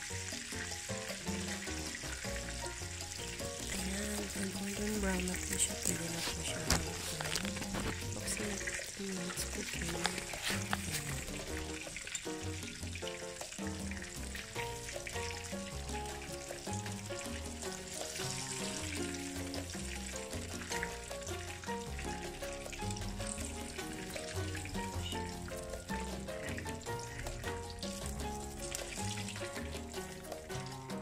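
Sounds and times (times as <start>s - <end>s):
background music with bass: 0.0s - 31.0s
chicken sizzling in hot oil: 0.0s - 31.0s.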